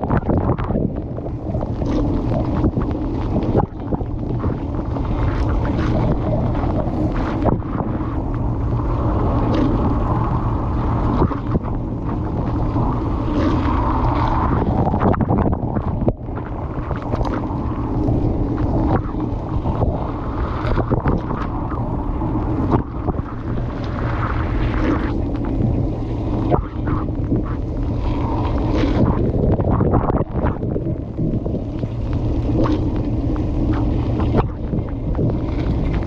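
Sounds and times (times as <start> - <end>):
dishwasher pump hum: 0.0 - 36.0
water spraying and sloshing: 0.0 - 36.0.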